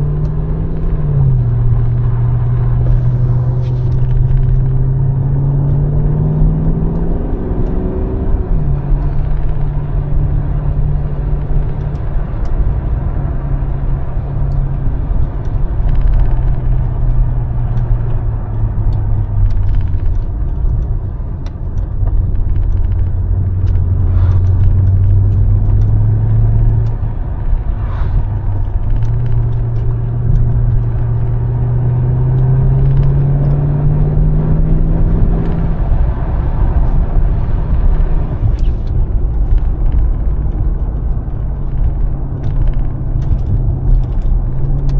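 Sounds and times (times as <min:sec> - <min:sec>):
car engine rumbling while driving: 0:00.0 - 0:44.9.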